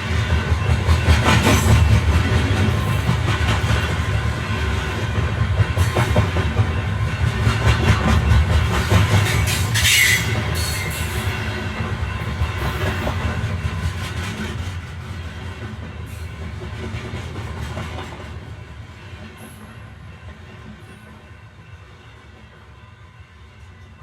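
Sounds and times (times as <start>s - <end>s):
train rumbling and clattering: 0.0s - 24.0s.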